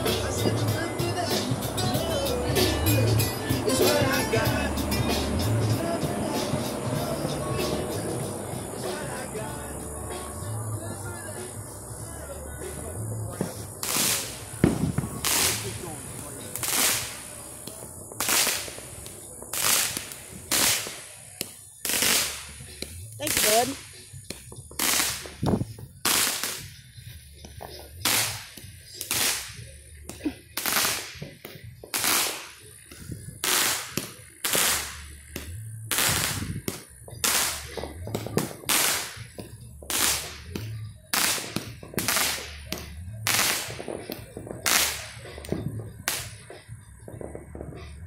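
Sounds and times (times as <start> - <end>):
fireworks banging with echo: 0.0 - 11.8, 12.5 - 48.0.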